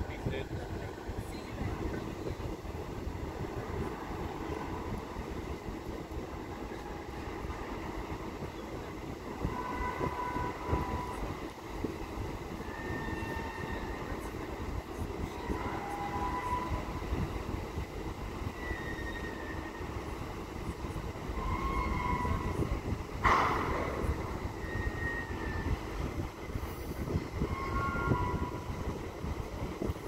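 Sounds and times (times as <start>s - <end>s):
ship engines rumbling: 0.0s - 30.0s
wind on microphone: 0.0s - 30.0s.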